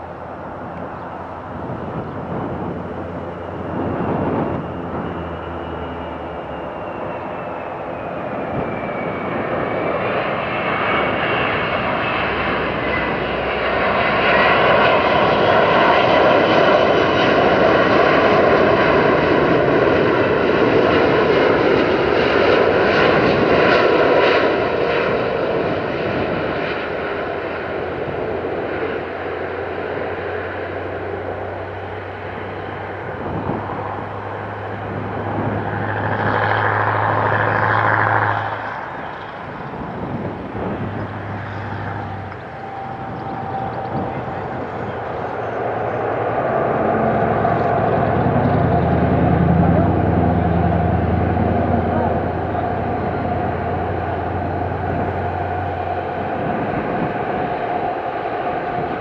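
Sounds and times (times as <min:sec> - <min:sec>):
jet engines roaring with whine: 0:00.0 - 0:59.0.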